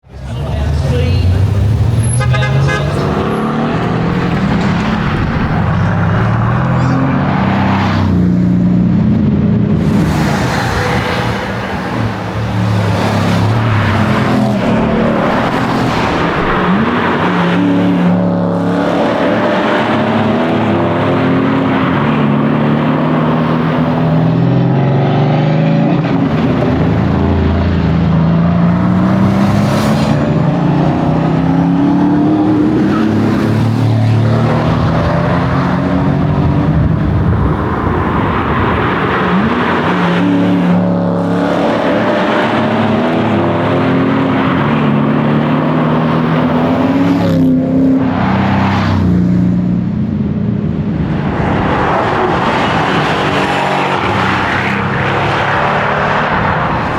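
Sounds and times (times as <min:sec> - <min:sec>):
car engine accelerating through gears: 0:00.4 - 0:50.0, 0:50.9 - 0:56.9.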